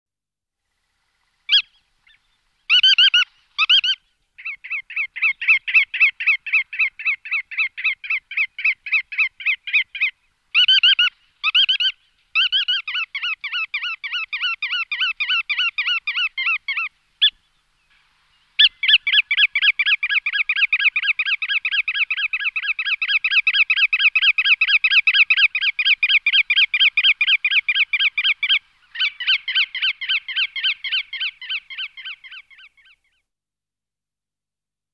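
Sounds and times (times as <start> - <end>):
godwit calling: 1.5 - 17.5, 18.5 - 33.2.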